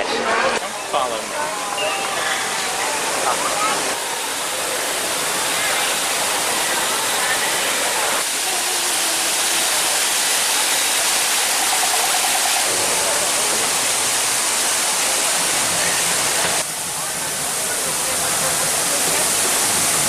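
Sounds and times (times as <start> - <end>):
faint voices: 0.0 - 20.0.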